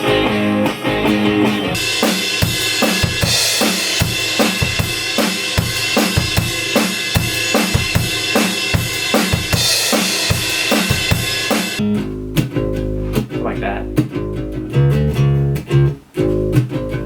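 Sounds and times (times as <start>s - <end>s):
drum kit rock beat: 0.0s - 17.0s.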